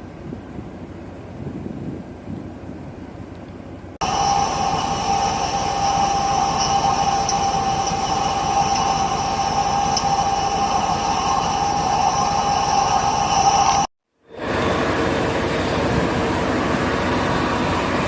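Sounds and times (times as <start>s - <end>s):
machine whine and rumbling hiss: 0.0s - 18.0s.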